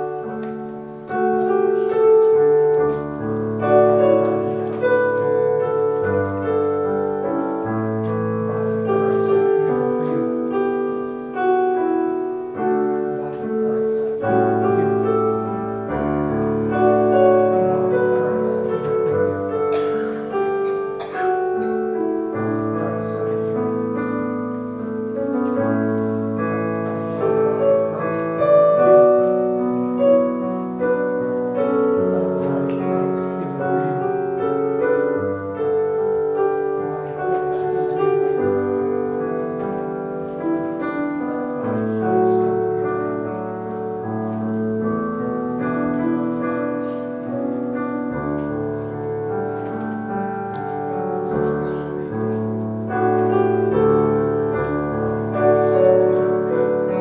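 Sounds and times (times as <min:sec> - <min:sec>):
piano playing slow chords: 0:00.0 - 0:57.0.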